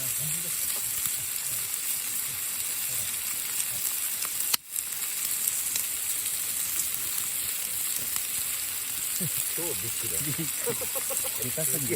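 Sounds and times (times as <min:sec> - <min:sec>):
food sizzling in frying pan: 0:00.0 - 0:11.9.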